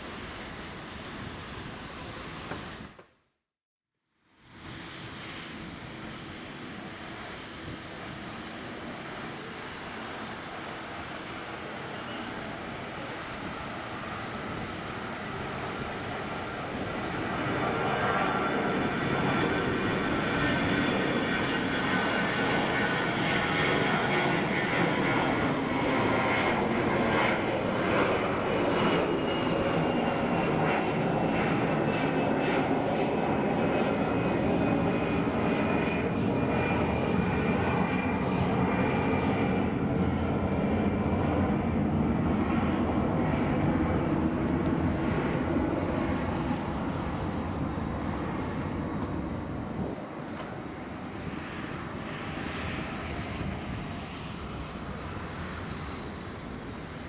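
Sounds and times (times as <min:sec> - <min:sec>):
jet engines roaring: 0:00.0 - 0:02.9, 0:04.5 - 0:57.0
jet engine whine falling in pitch: 0:04.5 - 0:57.0.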